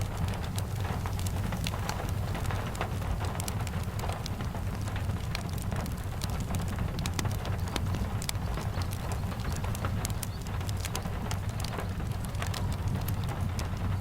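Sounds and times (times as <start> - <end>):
fireplace crackling: 0.0 - 14.0
steady rain: 0.0 - 14.0.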